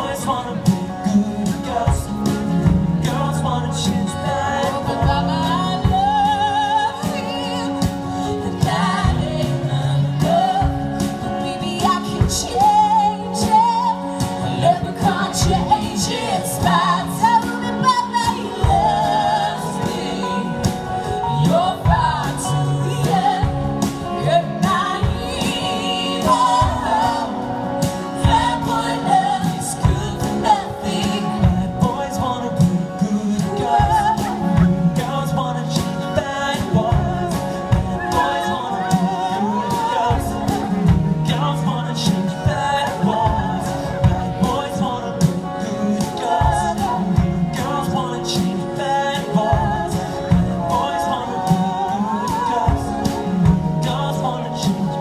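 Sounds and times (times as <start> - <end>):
live band playing: 0.0 - 55.0
person singing: 0.0 - 55.0.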